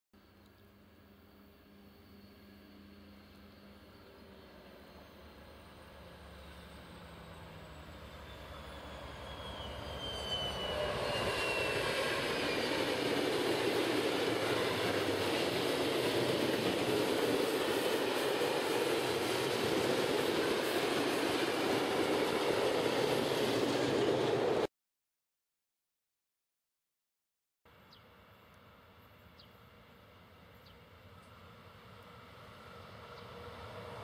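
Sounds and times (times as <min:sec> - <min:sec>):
diesel locomotive engine whine: 0:00.2 - 0:24.7, 0:27.7 - 0:34.0.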